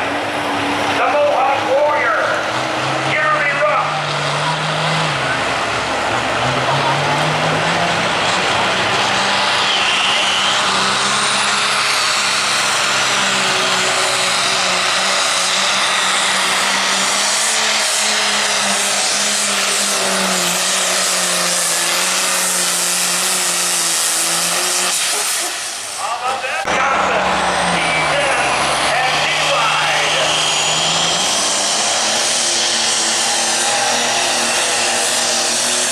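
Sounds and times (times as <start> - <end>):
tractor engine roaring: 0.0 - 35.9.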